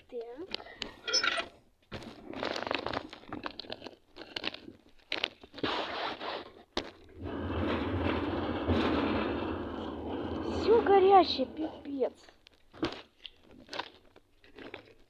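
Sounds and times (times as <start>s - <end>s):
crunching and rustling on microphone: 1.8s - 15.0s.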